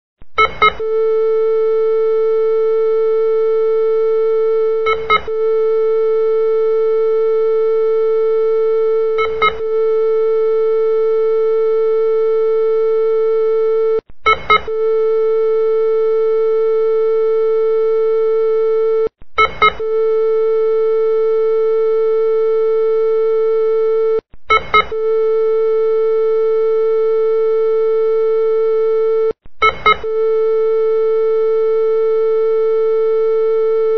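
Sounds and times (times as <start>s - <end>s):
flatline monitor tone: 0.4s - 33.9s.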